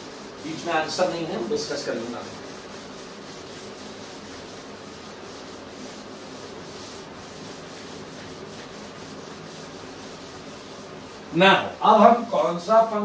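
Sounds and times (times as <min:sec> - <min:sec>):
duster rubbing chalkboard: 0:00.0 - 0:13.0.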